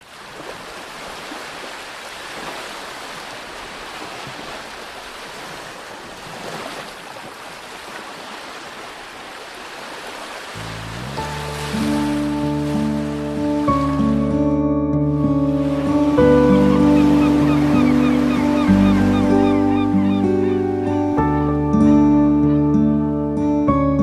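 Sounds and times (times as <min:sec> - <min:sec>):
sea waves washing in: 0:00.0 - 0:14.4, 0:15.1 - 0:21.6.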